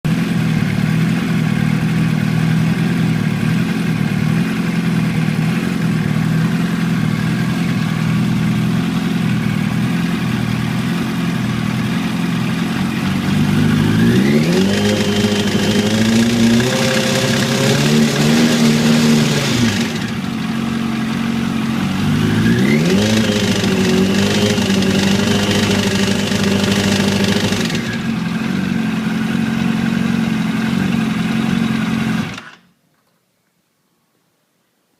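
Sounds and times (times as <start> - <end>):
motorcycle engine idling and revving: 0.0 - 32.7
engine ticking: 0.1 - 32.6.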